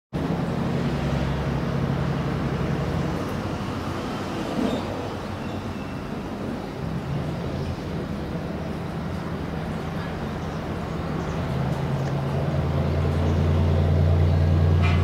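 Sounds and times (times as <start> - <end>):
outdoor noise: 0.1 - 15.0
engine drone: 0.2 - 15.0.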